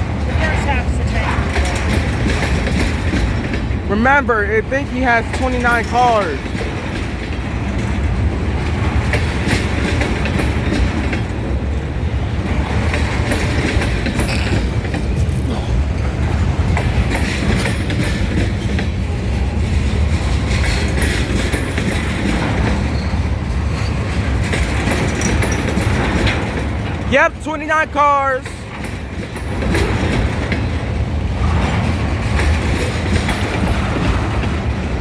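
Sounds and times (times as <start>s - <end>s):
freight train wheels rumbling: 0.0s - 35.0s
wheels clacking over rail joints: 0.0s - 35.0s.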